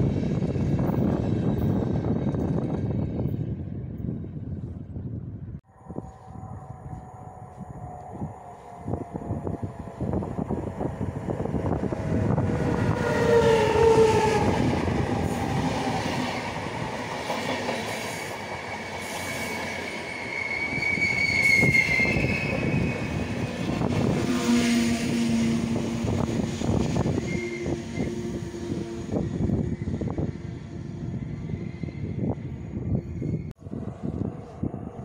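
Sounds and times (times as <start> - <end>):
train coaches rumbling and clattering: 0.0 - 5.0, 7.8 - 35.0
electric locomotive whine: 0.0 - 35.0.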